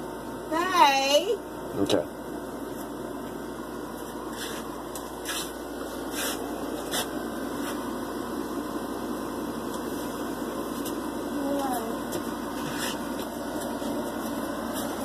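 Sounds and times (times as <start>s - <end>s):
air conditioner fan whooshing: 0.0s - 15.0s.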